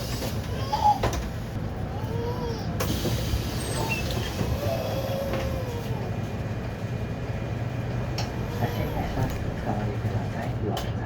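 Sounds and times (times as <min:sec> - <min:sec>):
bus engine humming: 0:00.0 - 0:11.0
squeaks and rattles of bus body: 0:00.0 - 0:11.0.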